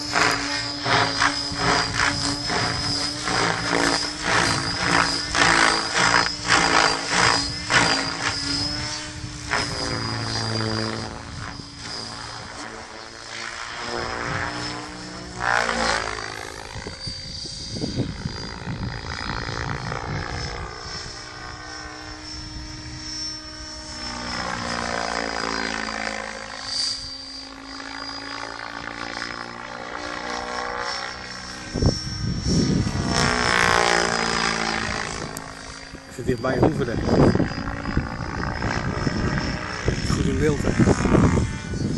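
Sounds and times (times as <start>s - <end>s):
rc helicopter rotor drone: 0.0s - 41.9s
thin high whine: 0.0s - 41.9s.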